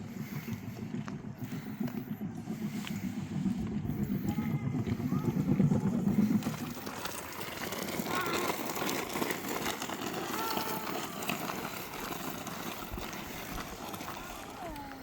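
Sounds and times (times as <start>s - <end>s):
faint voices: 0.0s - 15.0s
steady outdoor noise: 0.0s - 15.0s.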